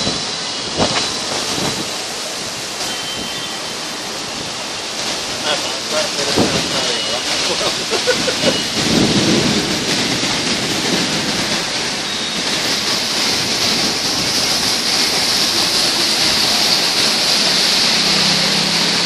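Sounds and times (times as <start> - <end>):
heavy rain on road: 0.0 - 19.0.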